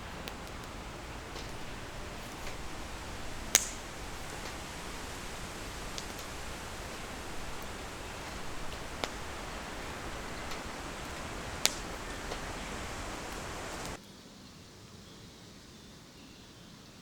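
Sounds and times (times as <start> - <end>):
campfire hissing and popping: 0.0 - 14.0
loud fire crack: 0.0 - 14.0.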